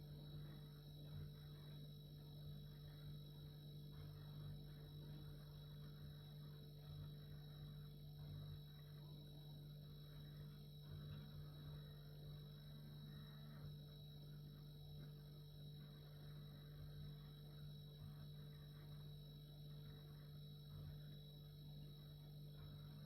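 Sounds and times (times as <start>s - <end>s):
refrigerator low hum: 0.0s - 23.0s
thin high whine: 0.0s - 23.0s.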